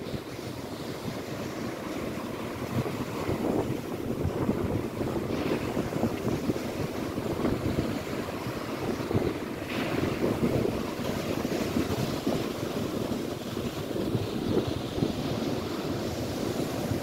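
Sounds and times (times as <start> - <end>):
waves breaking on the shore: 0.0 - 17.0
wind buffeting the microphone: 0.0 - 17.0.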